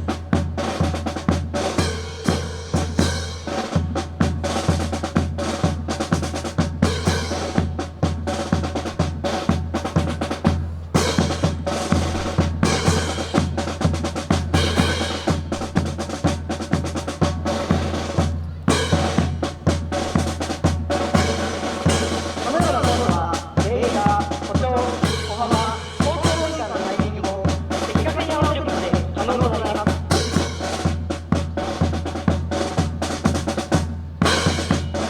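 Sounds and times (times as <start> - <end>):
march music over speakers: 0.0 - 35.0.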